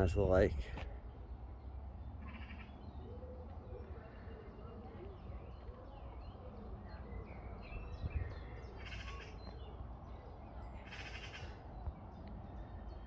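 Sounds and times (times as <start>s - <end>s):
birds calling and singing: 0.0s - 13.0s.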